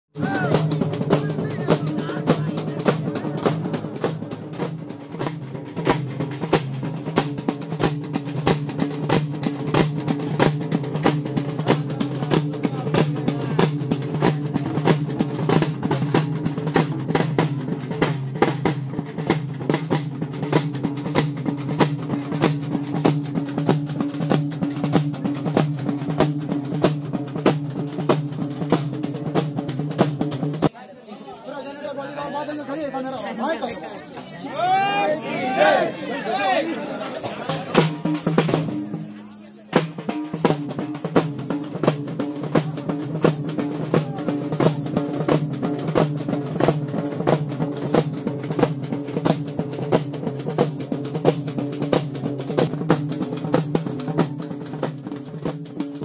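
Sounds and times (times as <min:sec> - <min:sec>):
drum band playing fast rhythm: 0:00.1 - 0:56.0.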